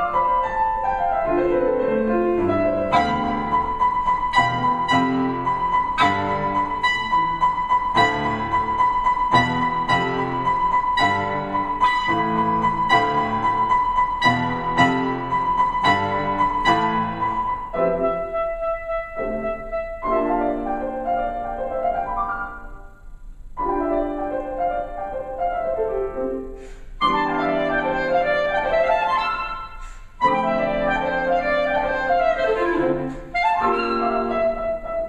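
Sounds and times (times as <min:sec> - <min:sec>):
clarinet melody: 0:00.0 - 0:23.0, 0:23.6 - 0:35.0
piano chords: 0:00.0 - 0:35.0.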